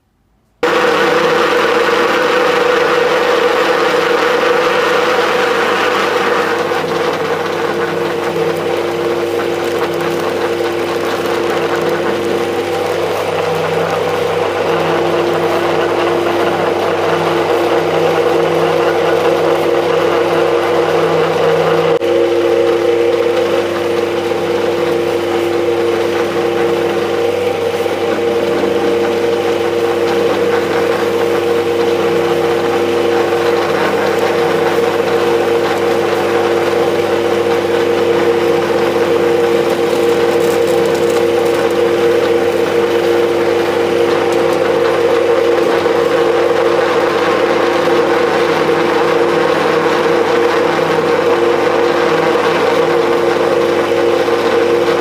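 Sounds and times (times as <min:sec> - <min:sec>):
pellet mill humming and grinding: 0:00.6 - 0:55.0.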